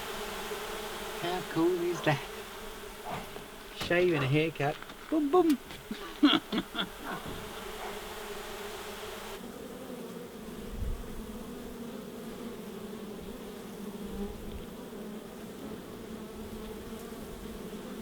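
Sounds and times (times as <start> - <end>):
bees buzzing in hive: 0.0 - 18.0.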